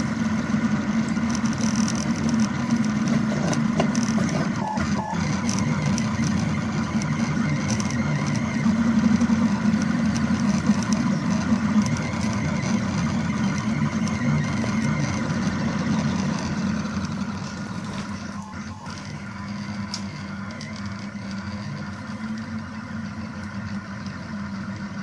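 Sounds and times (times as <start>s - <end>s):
stepper motors whirring: 0.0s - 25.0s.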